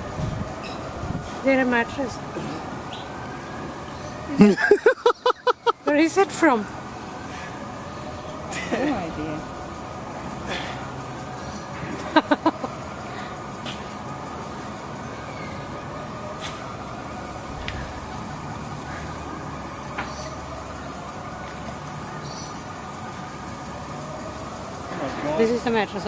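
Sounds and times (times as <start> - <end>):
outdoor background hiss: 0.0 - 26.0
pulsing high-pitched buzz: 0.0 - 26.0.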